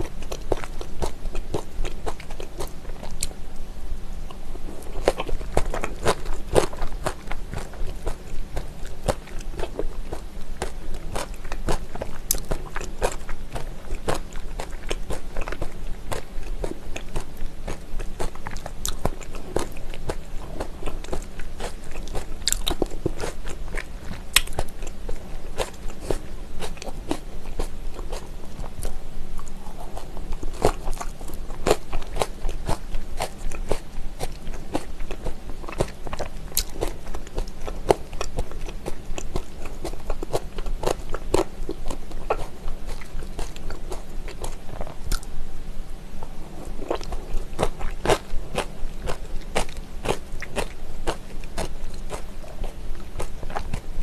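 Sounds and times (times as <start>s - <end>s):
crunchy chewing: 0.0s - 45.4s, 46.2s - 54.0s.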